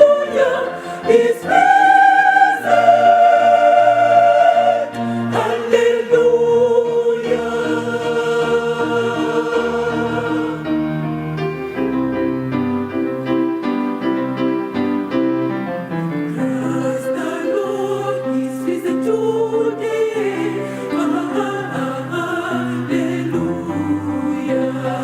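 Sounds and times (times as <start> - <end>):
gospel choir singing: 0.0 - 13.4, 16.1 - 25.0.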